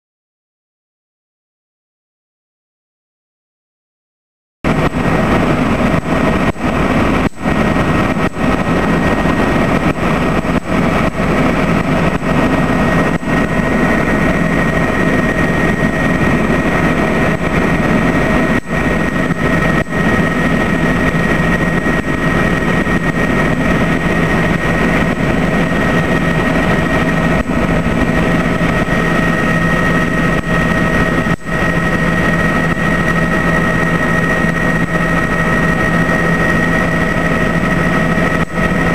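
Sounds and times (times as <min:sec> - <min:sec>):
helicopter engine and rotor drone: 0:04.6 - 0:38.9
high whine: 0:04.7 - 0:38.9.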